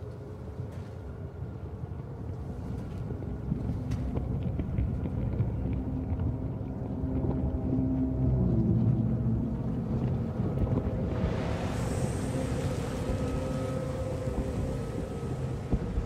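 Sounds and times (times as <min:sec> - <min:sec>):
low rumbling drone: 0:00.0 - 0:16.0.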